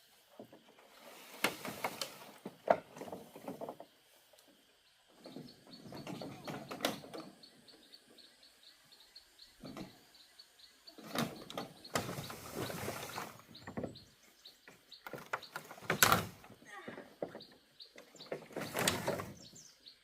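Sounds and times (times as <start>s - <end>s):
rustling and scraping: 0.0s - 7.4s, 10.9s - 19.8s.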